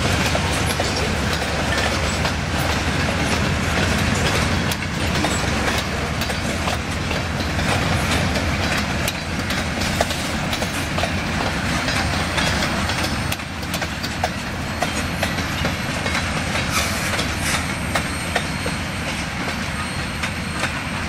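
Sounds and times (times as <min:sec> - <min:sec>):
steel wheels rumbling on rail: 0:00.0 - 0:21.0
wheels clacking over rail joints: 0:00.0 - 0:21.0.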